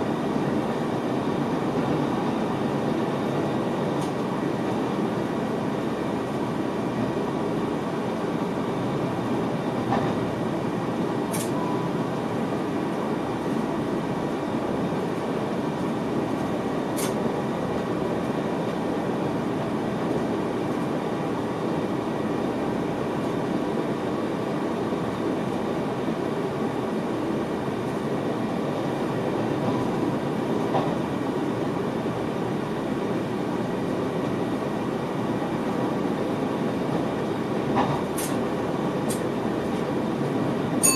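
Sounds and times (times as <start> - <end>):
electric train rumbling on track: 0.0 - 40.9.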